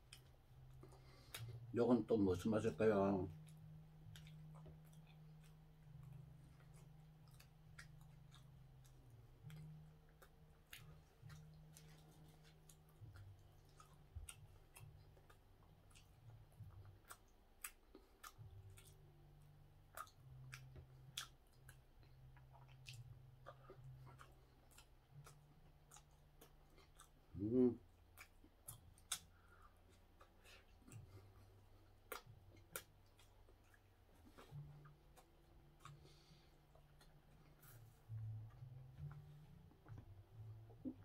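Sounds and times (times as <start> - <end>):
low steady hum: 0.0 - 41.0
quiet chewing: 0.0 - 41.0.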